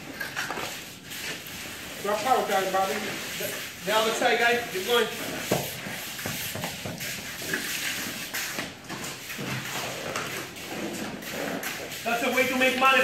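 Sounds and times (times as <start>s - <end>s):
trowels scraping wet floor mix: 0.0s - 13.0s.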